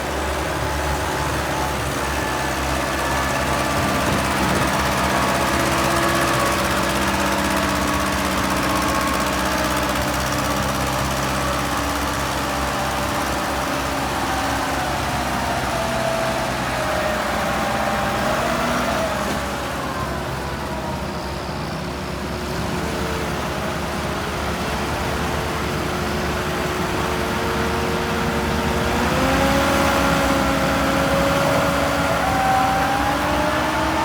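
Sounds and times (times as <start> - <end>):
tractor engine running under load: 0.0 - 34.0.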